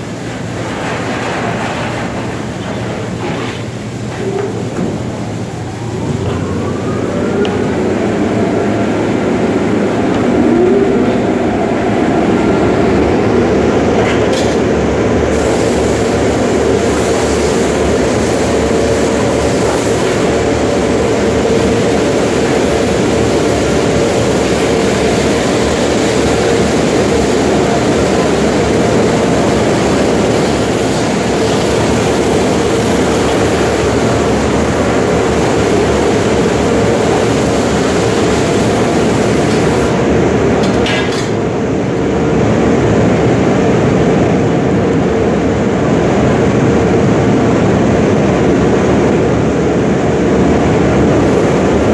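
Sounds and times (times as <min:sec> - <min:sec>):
high-pressure water spray hissing: 0:00.0 - 0:40.7, 0:50.4 - 0:51.9
car wash machinery hum and whine: 0:00.0 - 0:51.9.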